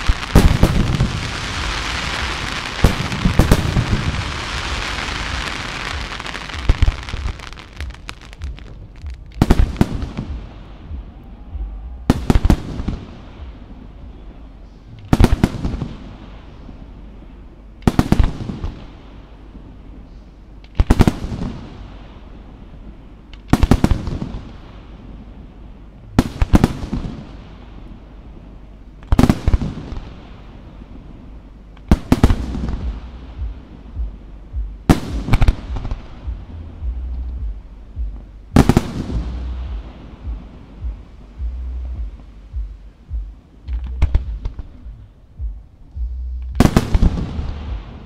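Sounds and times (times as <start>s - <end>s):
echoing rumble: 0.0s - 19.8s, 23.9s - 48.0s.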